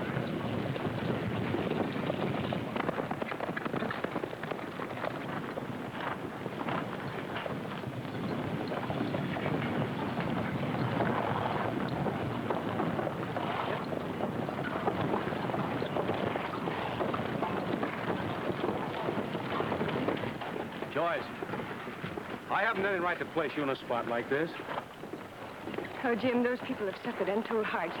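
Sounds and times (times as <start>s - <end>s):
horses hooves clattering: 0.0s - 28.0s
wagons rolling: 0.0s - 28.0s.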